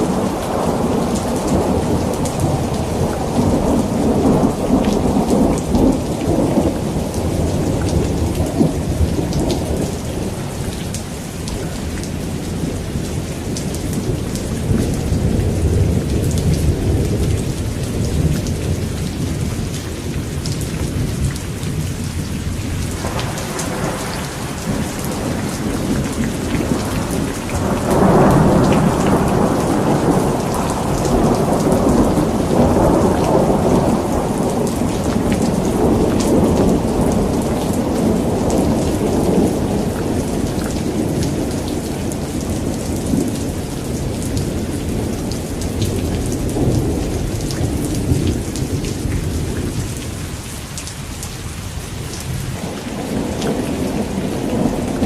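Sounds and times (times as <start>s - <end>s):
rolling thunder rumbling: 0.0s - 50.6s, 51.2s - 55.0s
steady rain falling: 0.0s - 55.0s.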